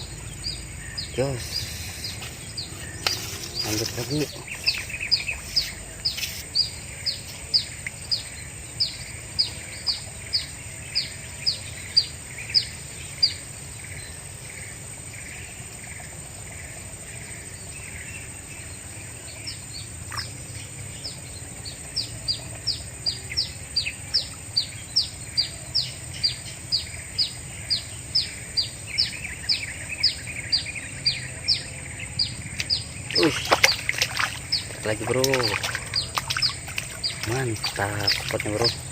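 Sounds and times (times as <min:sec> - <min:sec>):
high insect-like hiss: 0:00.0 - 0:38.9.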